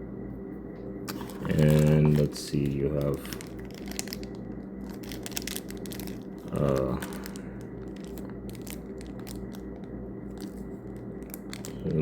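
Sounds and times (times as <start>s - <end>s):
steady low hum: 0.0s - 12.0s
plastic packaging crinkling: 1.1s - 12.0s.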